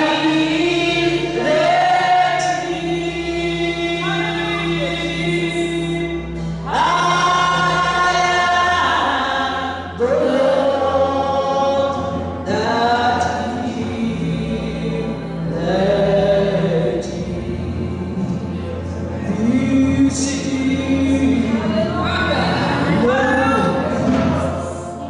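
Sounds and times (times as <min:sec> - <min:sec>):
gospel worship singing: 0:00.0 - 0:25.0
low accompaniment: 0:00.0 - 0:25.0.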